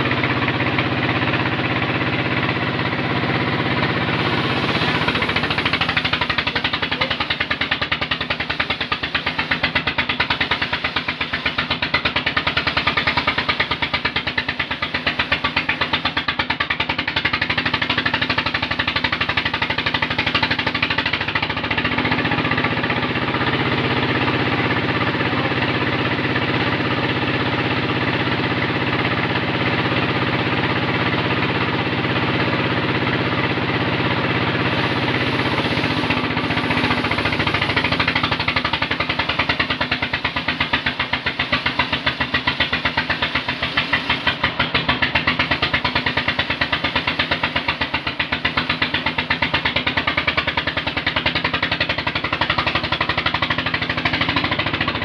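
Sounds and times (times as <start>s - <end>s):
engine running with rapid chatter: 0.0s - 55.0s
saw cutting timber hum: 0.0s - 55.0s.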